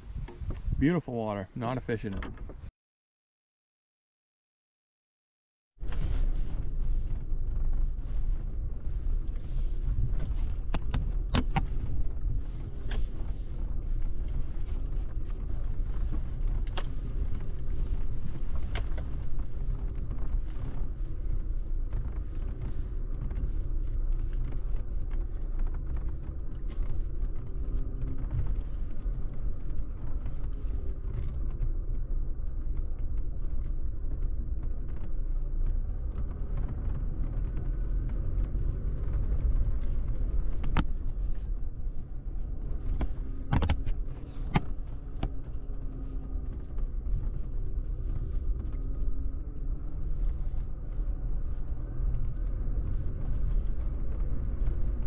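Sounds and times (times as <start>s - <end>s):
truck engine and tyres rumbling: 0.0s - 2.7s, 5.8s - 55.0s
truck knocking and creaking: 9.9s - 55.0s.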